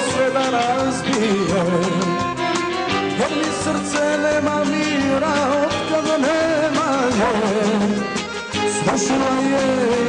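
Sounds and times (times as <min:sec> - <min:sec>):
live folk-pop band music: 0:00.0 - 0:10.0.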